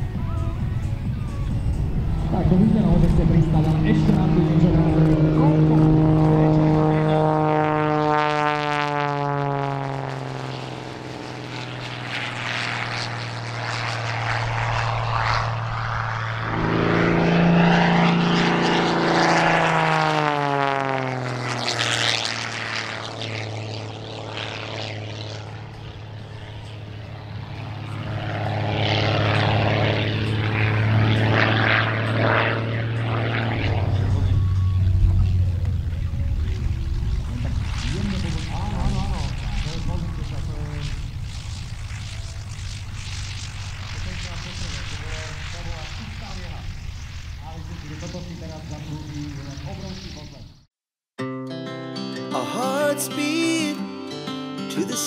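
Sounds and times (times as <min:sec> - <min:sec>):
propeller plane engine drone: 0:00.0 - 0:50.7.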